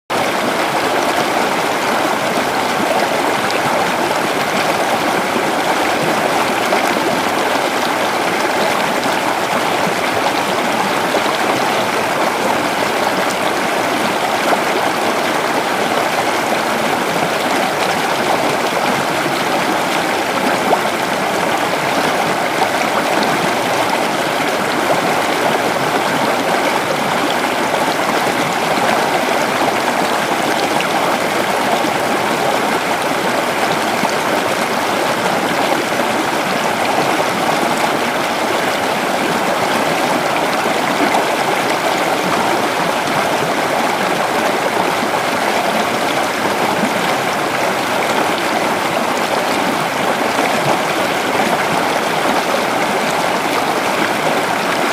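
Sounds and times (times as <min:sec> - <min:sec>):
creek water flowing over rocks: 0:00.1 - 0:54.9.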